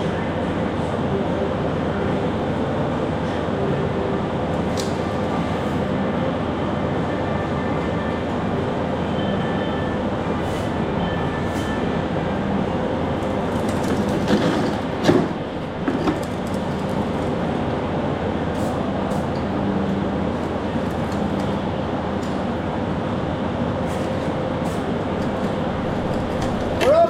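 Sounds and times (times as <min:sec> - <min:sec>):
machinery running: 0:00.0 - 0:27.0.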